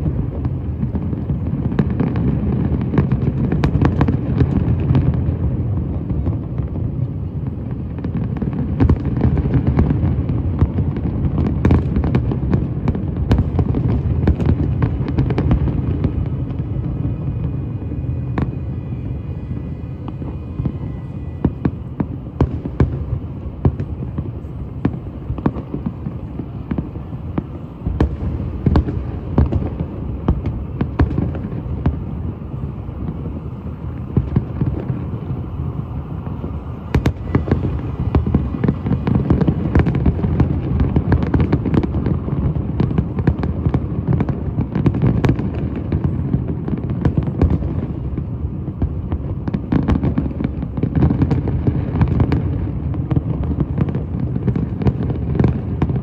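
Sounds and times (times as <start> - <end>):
fireworks booms and crackling: 0.0 - 56.0.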